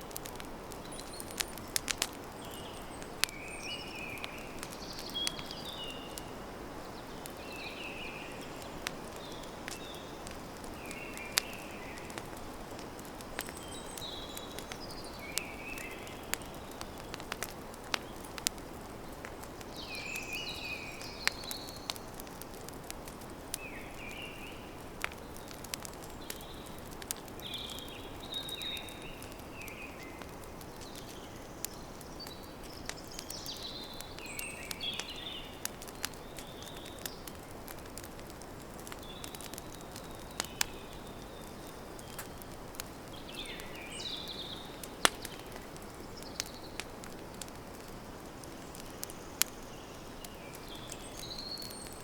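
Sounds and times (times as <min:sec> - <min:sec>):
campfire crackling and popping: 0:00.0 - 0:52.0
songbirds chirping: 0:00.0 - 0:52.0.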